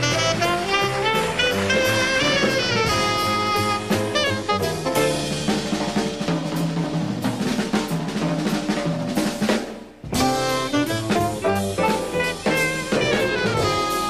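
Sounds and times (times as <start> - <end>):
band melody line: 0.0 - 14.0
jazz drum kit: 0.0 - 14.0.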